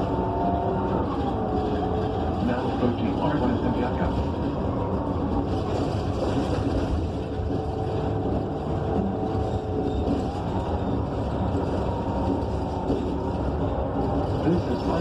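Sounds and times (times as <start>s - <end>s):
bus engine rumble: 0.0s - 15.0s
thin transmission whine: 0.0s - 15.0s.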